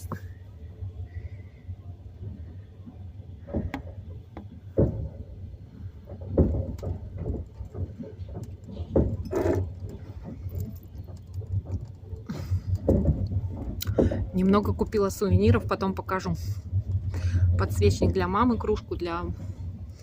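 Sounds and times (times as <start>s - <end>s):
train rumbling: 0.0s - 20.0s
wheels and carriage rattling: 3.3s - 20.0s.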